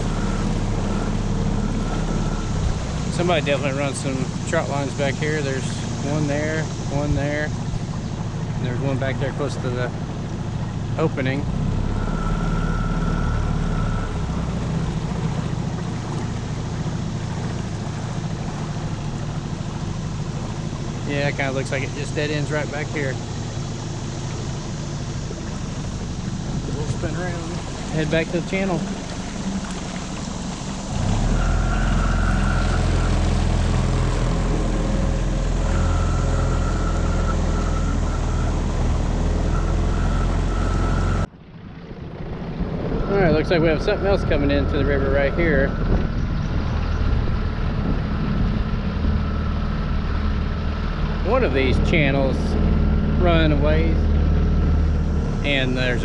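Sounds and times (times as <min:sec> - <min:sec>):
outboard motor running: 0:00.0 - 0:56.0
water wash: 0:00.0 - 0:56.0
wind: 0:00.0 - 0:56.0.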